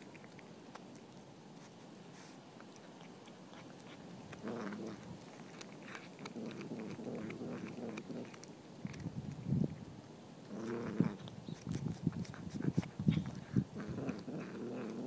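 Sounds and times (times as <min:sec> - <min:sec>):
cat chewing and crunching: 0:00.0 - 0:15.0.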